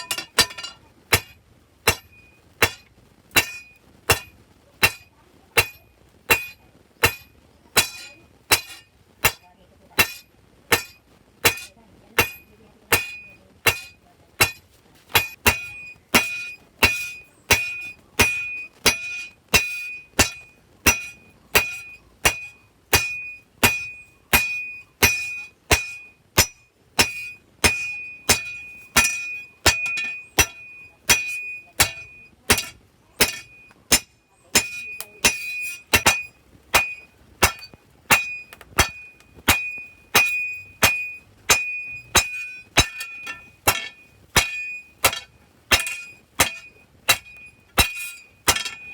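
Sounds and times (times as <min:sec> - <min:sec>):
hammer striking steel on anvil: 0:00.0 - 0:48.9.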